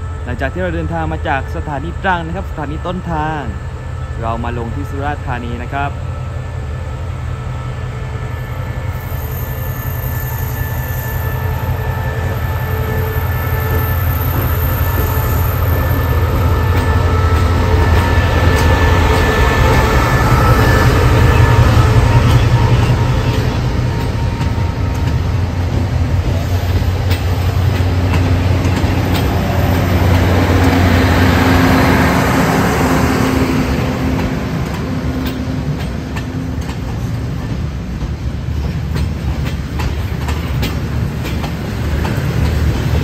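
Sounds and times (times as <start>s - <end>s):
diesel locomotive engine hum: 0.0s - 43.0s.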